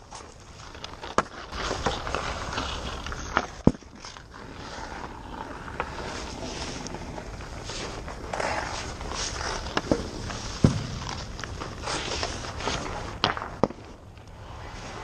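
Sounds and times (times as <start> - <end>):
hockey sticks and pucks clacking: 0.0 - 15.0
skate blades scraping ice: 0.0 - 15.0.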